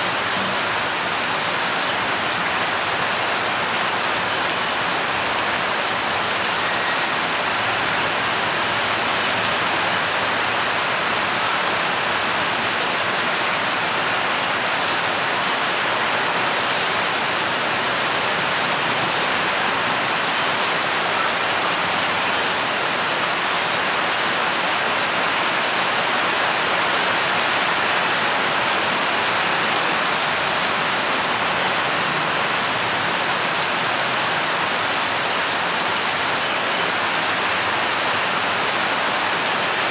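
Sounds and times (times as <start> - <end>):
heavy rain on floodwater: 0.0 - 39.9.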